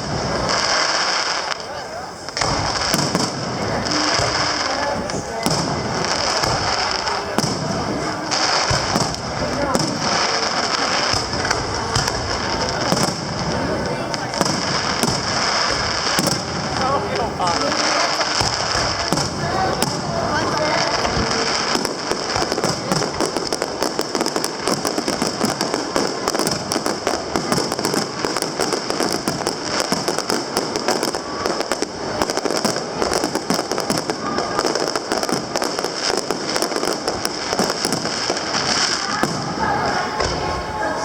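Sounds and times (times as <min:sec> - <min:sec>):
fireworks crackling and banging: 0:00.0 - 0:41.0.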